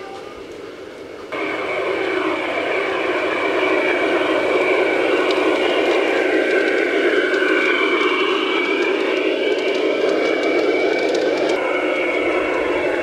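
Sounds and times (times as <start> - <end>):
model train mechanical whine: 0.0 - 13.0
wheels rumbling on rails: 0.0 - 13.0.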